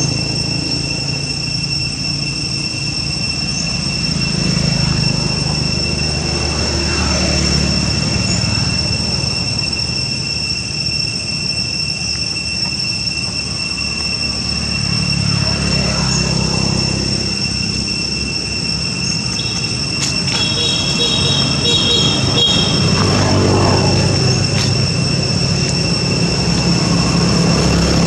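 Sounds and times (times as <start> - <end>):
high-pitched drone: 0.0 - 28.0.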